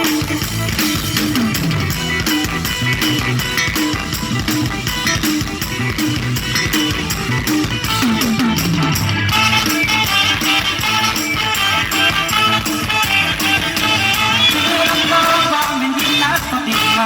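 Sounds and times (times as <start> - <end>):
bass line: 0.0 - 17.0
drum kit beat: 0.0 - 17.0
electric guitar: 0.0 - 17.0.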